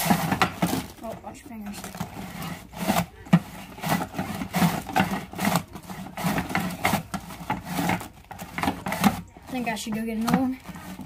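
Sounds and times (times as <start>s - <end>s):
cabbage scraping over shredder blade: 0.0s - 11.0s.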